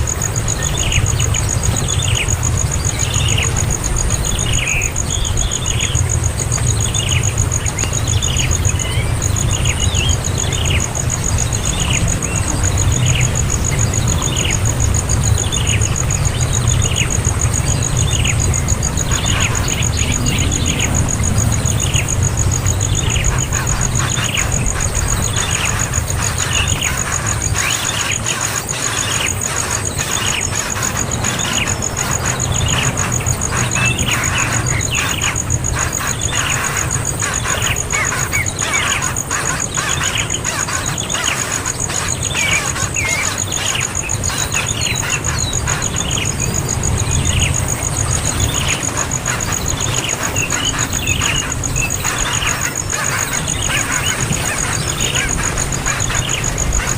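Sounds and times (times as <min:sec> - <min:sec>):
steady high whine: 0:00.0 - 0:56.9
young bird calling: 0:06.8 - 0:56.9.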